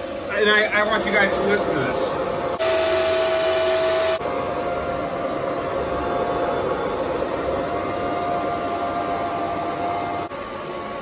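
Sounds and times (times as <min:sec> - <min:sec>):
cooling fans whirring: 0:00.0 - 0:11.0.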